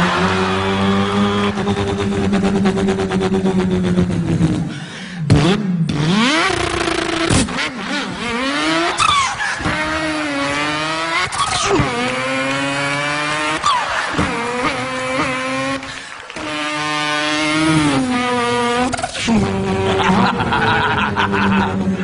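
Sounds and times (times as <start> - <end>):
man imitating car engine revving: 0.0 - 22.0.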